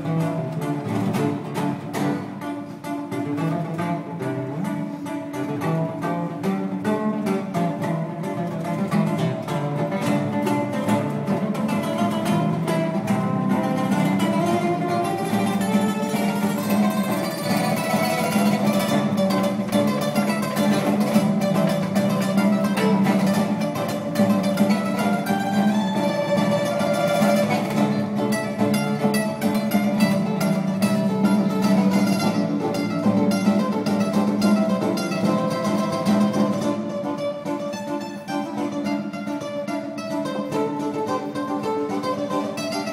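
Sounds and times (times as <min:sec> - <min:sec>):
fingerstyle acoustic guitar: 0:00.0 - 0:42.9.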